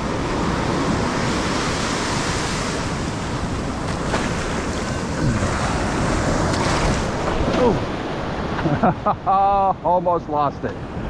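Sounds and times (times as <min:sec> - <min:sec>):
ocean surf breaking on beach: 0:00.0 - 0:09.9.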